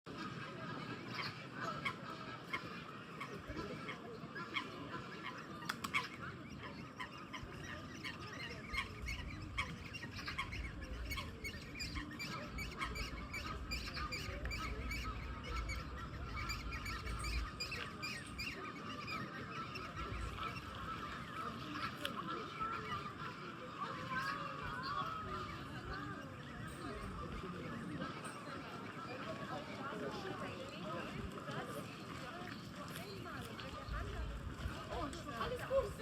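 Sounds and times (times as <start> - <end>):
ducks or geese calling: 0.1 - 32.3.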